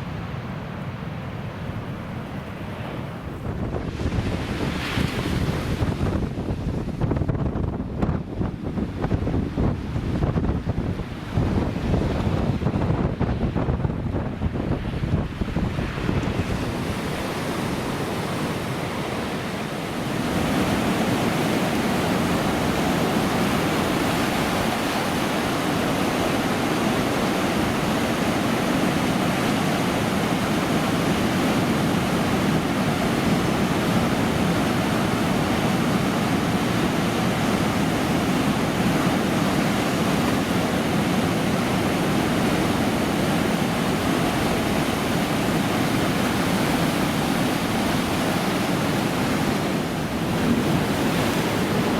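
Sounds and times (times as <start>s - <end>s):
ocean surf roar: 0.0s - 51.9s.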